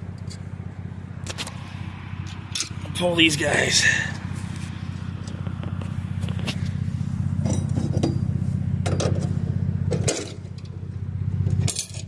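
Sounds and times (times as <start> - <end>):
engine idling: 0.0 - 12.0
metal hitch chains clinking: 0.1 - 0.6, 2.2 - 12.0.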